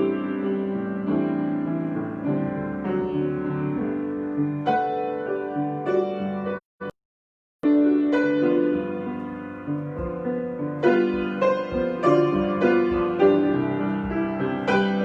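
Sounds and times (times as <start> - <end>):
solo piano improvisation: 0.0 - 6.6, 7.6 - 15.0.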